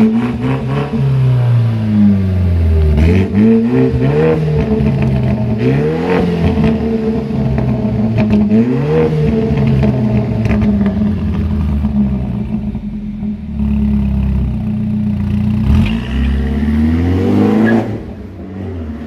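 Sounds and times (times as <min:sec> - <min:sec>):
car engine revving through exhaust: 0:00.0 - 0:19.0.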